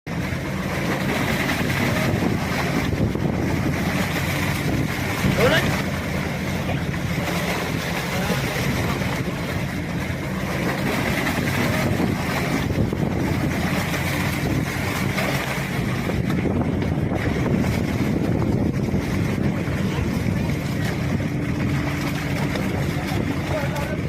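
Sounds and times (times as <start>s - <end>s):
boat motor running: 0.0s - 24.0s
wind noise on microphone: 0.1s - 7.9s, 8.5s - 24.0s.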